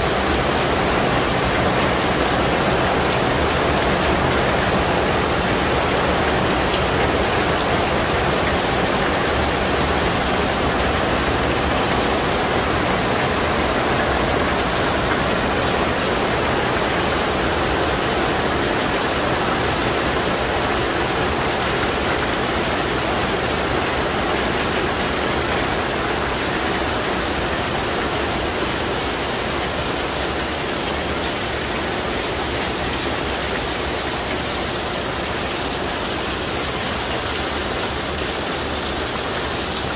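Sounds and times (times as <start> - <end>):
heavy rain falling: 0.0 - 39.9
water pouring onto wet paving: 0.0 - 39.9.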